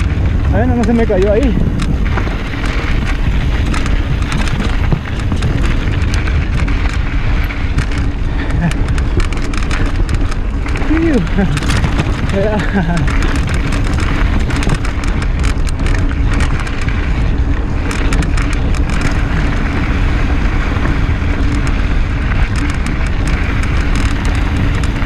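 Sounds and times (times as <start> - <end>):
bike chain and frame rattling: 0.0 - 25.0
tyres crunching over gravel: 0.0 - 25.0
wind buffeting microphone: 0.0 - 25.0.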